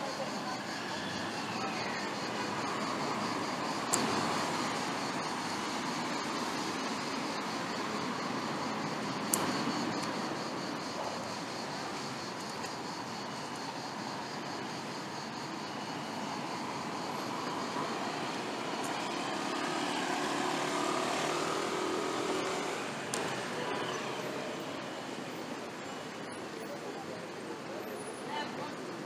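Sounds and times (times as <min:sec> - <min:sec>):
city street traffic hum: 0:00.0 - 0:29.0.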